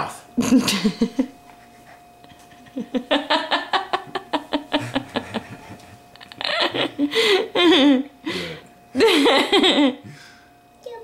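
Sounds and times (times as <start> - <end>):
faint steady hum: 0.0 - 11.0
person laughing: 0.4 - 10.0.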